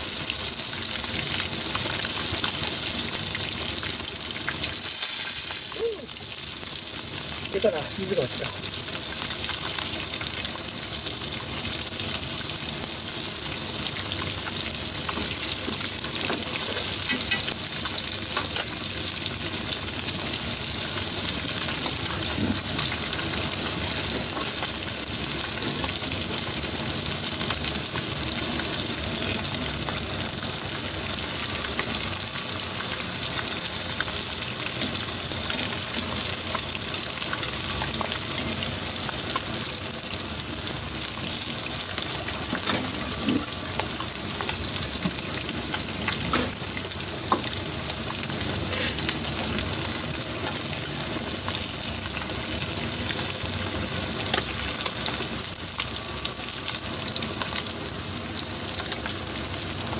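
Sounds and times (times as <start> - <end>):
fish frying in oil: 0.0 - 59.9.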